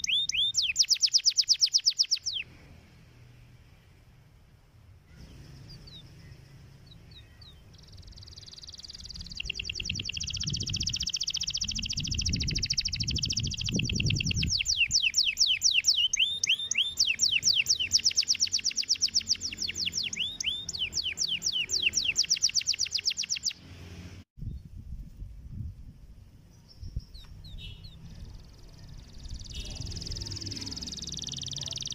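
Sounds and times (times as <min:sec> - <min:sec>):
canary singing trills: 0:00.0 - 0:02.5, 0:05.1 - 0:23.7, 0:26.5 - 0:31.9.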